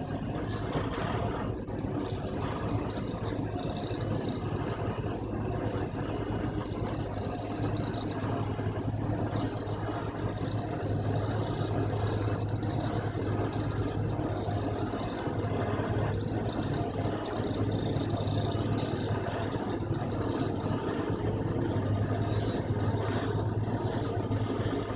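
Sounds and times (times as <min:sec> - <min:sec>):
heavy machine drone: 0:00.0 - 0:24.9.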